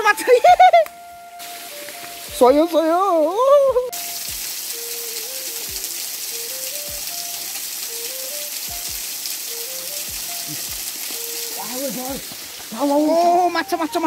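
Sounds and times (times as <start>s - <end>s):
simple background music tune: 0.0s - 14.0s
water flowing: 0.0s - 14.0s.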